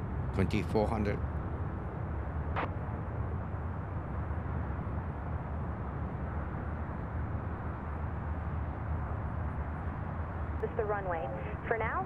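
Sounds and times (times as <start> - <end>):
jet airliner engines rumbling: 0.0 - 12.0.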